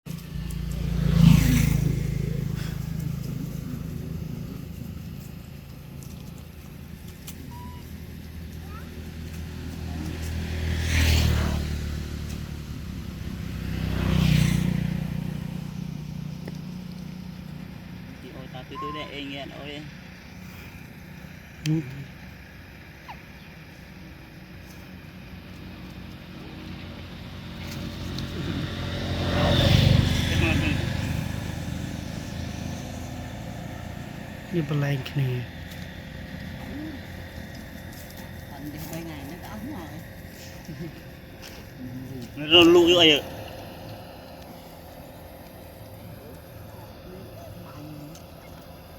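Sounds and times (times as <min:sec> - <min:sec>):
vehicle passing by: 0:00.1 - 0:22.8, 0:23.6 - 0:48.9.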